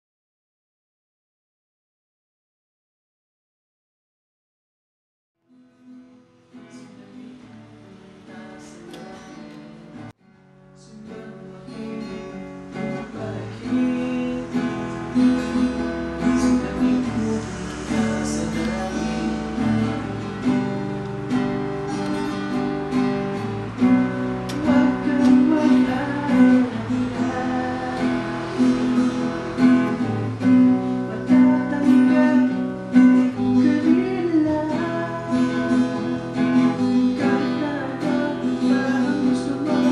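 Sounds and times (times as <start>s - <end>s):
strummed acoustic guitar: 5.4s - 39.9s.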